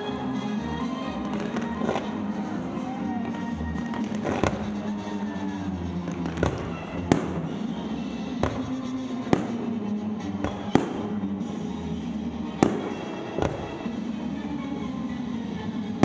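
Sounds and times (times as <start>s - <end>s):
fireworks bursting: 0.0s - 16.0s
music: 0.0s - 16.0s.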